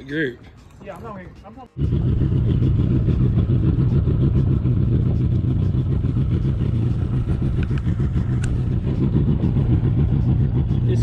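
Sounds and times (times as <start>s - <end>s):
outboard motor drone: 1.8s - 11.0s.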